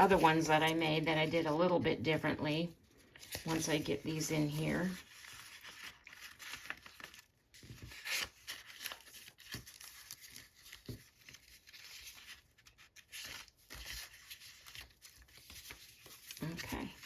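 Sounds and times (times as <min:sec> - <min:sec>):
paper rustling and sliding: 0:03.0 - 0:17.0.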